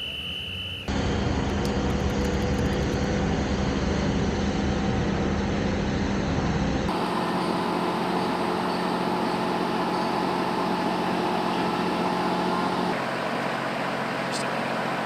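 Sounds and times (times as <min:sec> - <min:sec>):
heavy equipment engine drone: 0:00.0 - 0:15.0.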